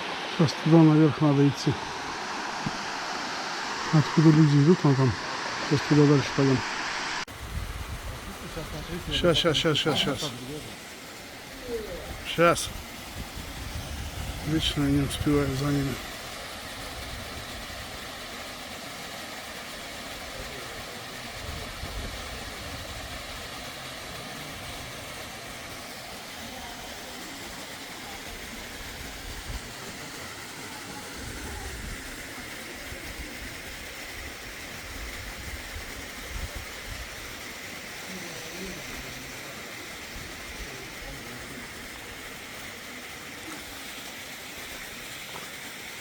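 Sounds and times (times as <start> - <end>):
mountain stream rushing: 0.0 - 46.0
waterfalls: 0.0 - 46.0.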